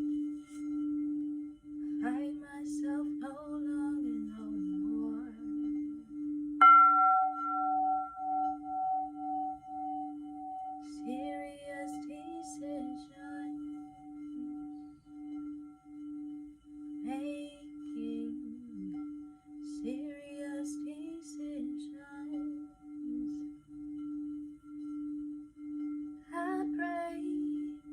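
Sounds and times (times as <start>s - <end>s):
singing bowl played around rim: 0.0s - 27.9s
singing bowl struck ringing: 4.0s - 27.9s.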